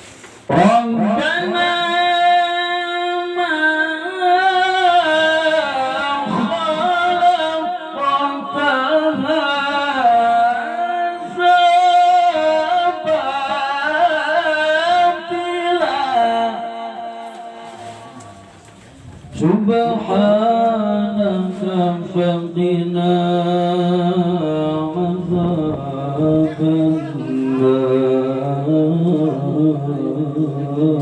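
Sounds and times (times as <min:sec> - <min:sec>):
man reciting melodically: 0:00.5 - 0:18.6, 0:19.2 - 0:31.0.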